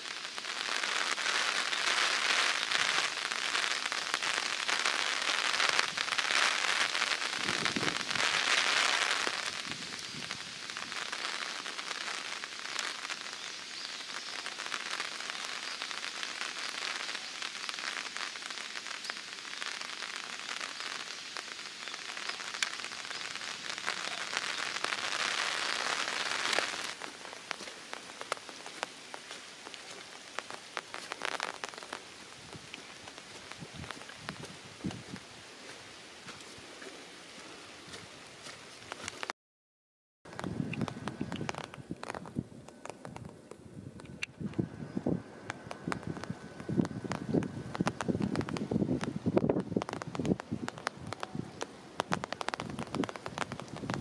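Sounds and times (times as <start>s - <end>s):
heavy rain falling: 0.0s - 39.3s, 40.3s - 54.0s
raindrops ticking: 0.0s - 39.3s, 40.3s - 44.7s, 45.4s - 54.0s.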